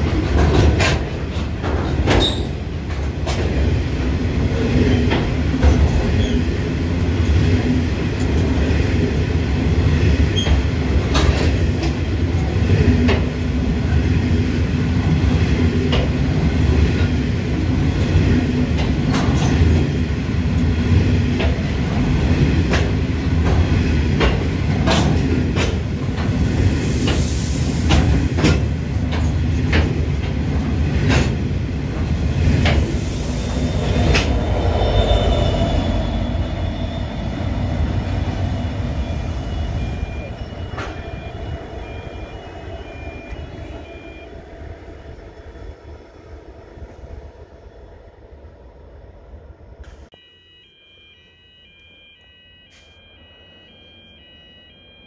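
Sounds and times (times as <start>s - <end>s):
train rumbling past: 0.0s - 50.1s.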